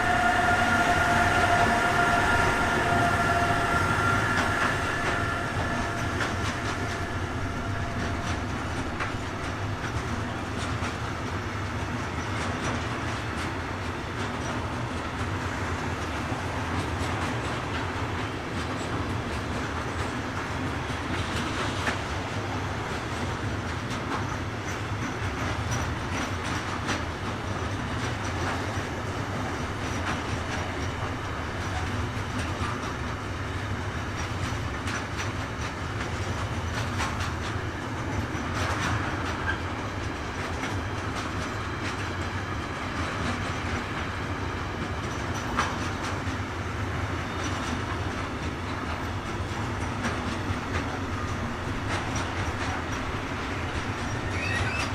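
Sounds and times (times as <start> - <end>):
freight train wagons rolling: 0.0 - 54.9.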